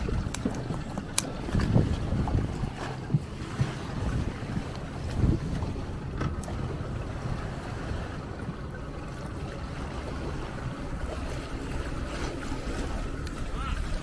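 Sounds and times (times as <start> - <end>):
motorboat engine rumble: 0.0 - 14.0
wind buffeting microphone: 0.0 - 14.0.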